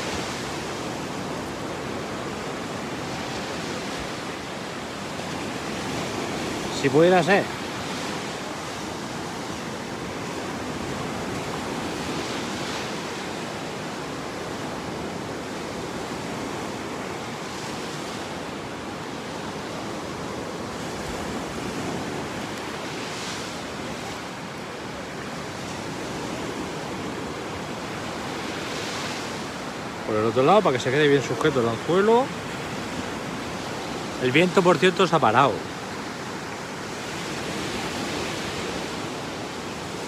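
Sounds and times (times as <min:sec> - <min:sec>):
waves breaking on beach: 0:00.0 - 0:40.0.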